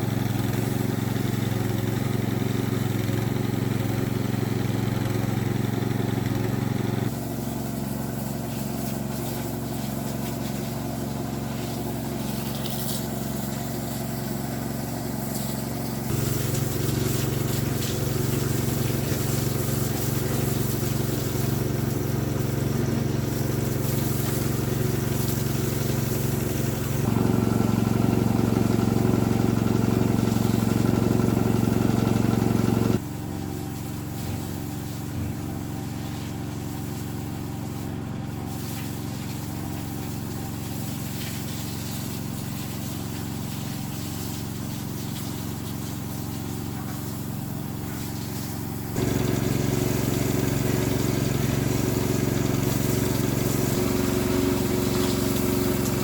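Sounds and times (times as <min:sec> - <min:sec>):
small engine water pump running: 0:00.0 - 0:56.0.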